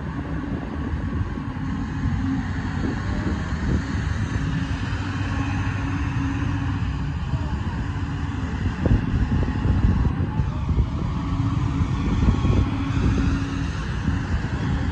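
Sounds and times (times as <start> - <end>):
excavator diesel engine running: 0.0 - 14.9
steady hum: 0.0 - 14.9.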